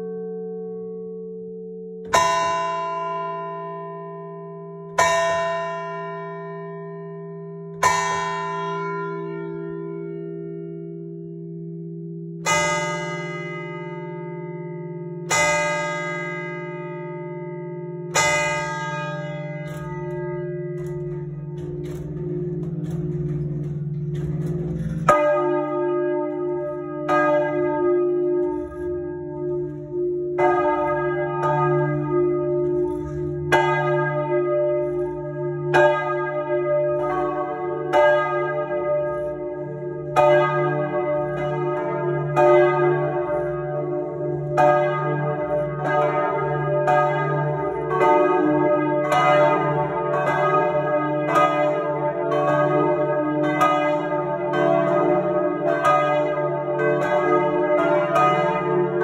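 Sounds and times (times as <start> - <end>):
deep bell hum: 0.0 - 2.5, 6.9 - 59.0
church bells ringing: 0.0 - 59.0.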